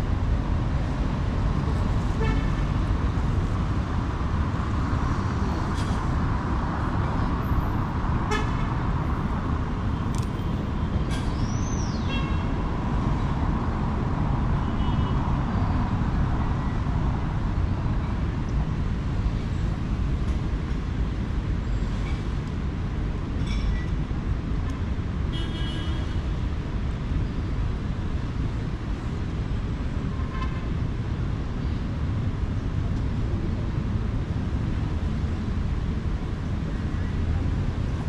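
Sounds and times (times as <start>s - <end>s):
rumble of passing vehicles: 0.0s - 38.0s.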